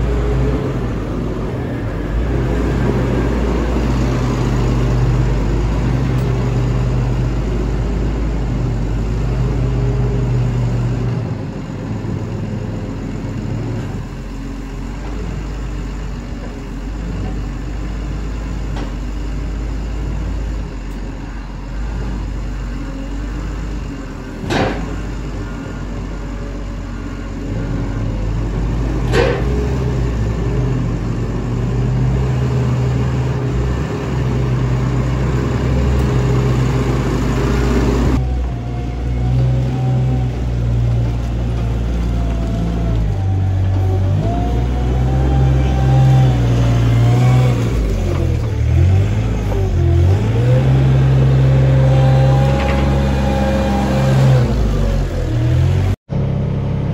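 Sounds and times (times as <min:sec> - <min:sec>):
wheel loader diesel engine: 0:00.0 - 0:56.9.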